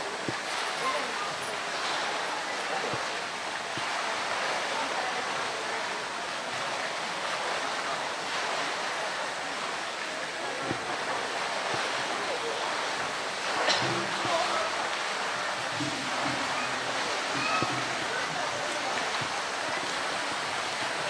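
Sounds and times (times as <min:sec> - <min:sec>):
water rushing into a pool: 0:00.0 - 0:21.0.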